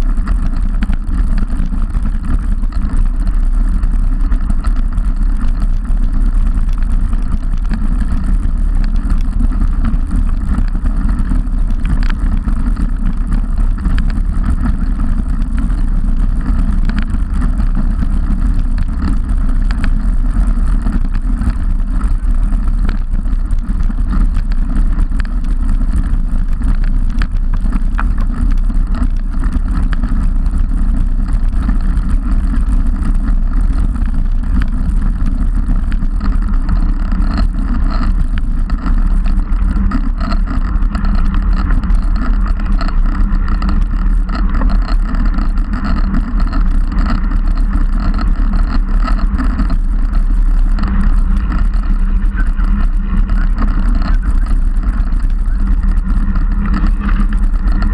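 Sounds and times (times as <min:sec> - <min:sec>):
small clicks and rattles: 0:00.0 - 0:57.9
tyre and road rumble: 0:00.0 - 0:57.9
wind rush on microphone: 0:00.0 - 0:57.9.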